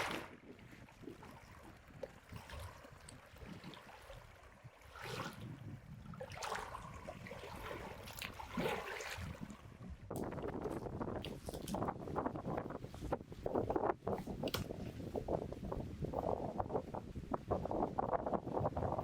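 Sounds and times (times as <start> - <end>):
faint river water flowing: 0.0 - 18.2.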